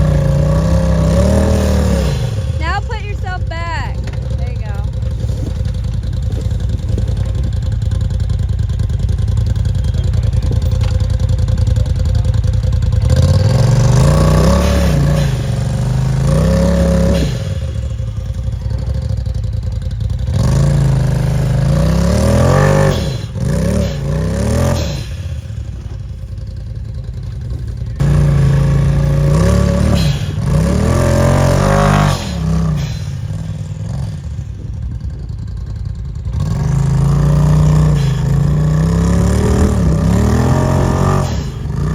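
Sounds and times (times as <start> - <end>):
utility vehicle engine revving: 0.0 - 41.9
vehicle clattering over rough ground: 0.0 - 41.9.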